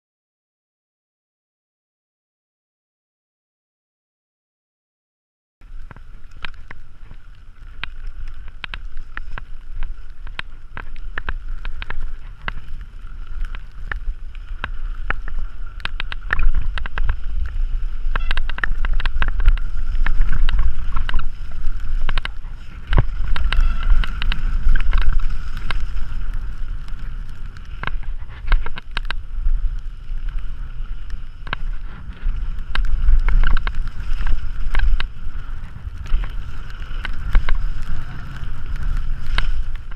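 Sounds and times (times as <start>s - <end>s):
wind rumbling on microphone: 5.6s - 39.9s
bike clicking and rattling: 5.7s - 39.9s.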